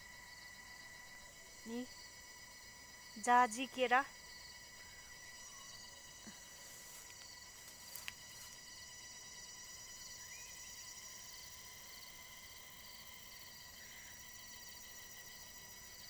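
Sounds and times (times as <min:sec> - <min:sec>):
insect pulsed trill: 0:00.0 - 0:16.0.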